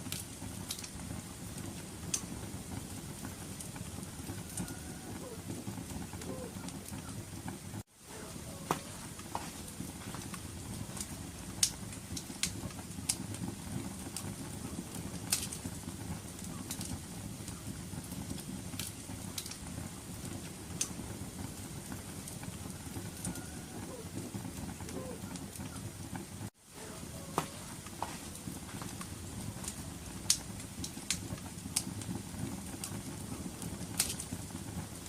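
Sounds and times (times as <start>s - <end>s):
low rush of burning: 0.0s - 35.0s
wood fire crackling and popping: 0.0s - 35.0s.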